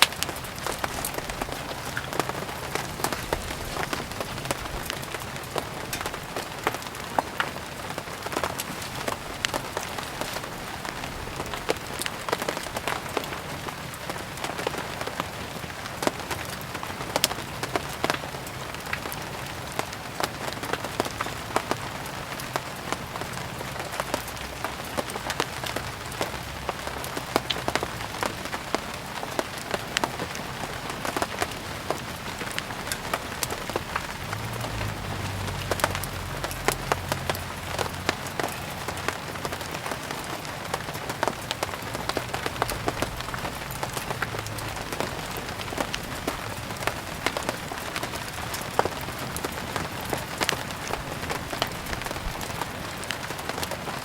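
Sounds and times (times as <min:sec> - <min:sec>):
firewood crackling and popping: 0:00.0 - 0:54.0
rain falling: 0:00.0 - 0:54.0.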